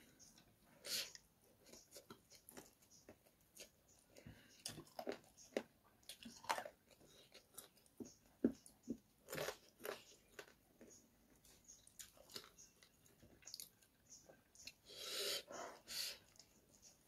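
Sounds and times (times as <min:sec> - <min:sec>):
chewing food: 0:00.0 - 0:14.8.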